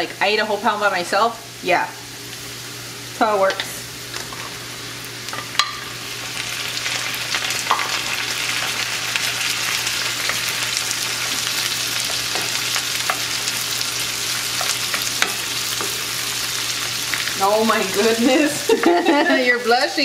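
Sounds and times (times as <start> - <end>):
shrimp sizzling in hot oil: 0.0 - 20.0.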